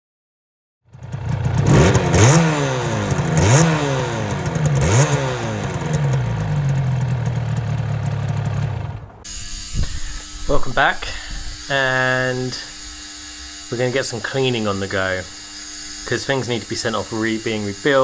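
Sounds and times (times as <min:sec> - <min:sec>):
two-stroke motorcycle engine revving: 0:00.9 - 0:18.0.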